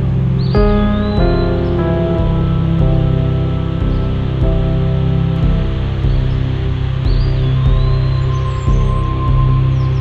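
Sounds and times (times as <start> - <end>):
background music sustained tones: 0.0 - 10.0.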